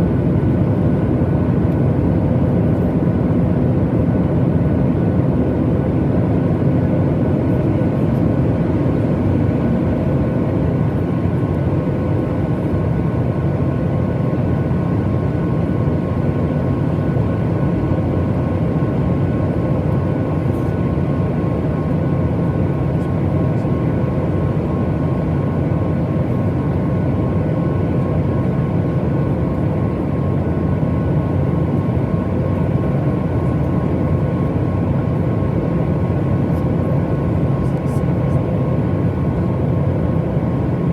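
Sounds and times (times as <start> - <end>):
airliner cabin engine roar: 0.0 - 40.9.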